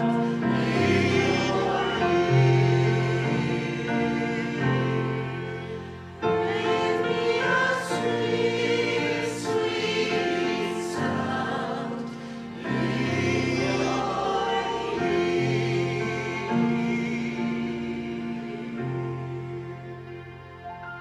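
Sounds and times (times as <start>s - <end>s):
choir singing slow worship song: 0.0s - 21.0s
electric keyboard: 0.0s - 21.0s.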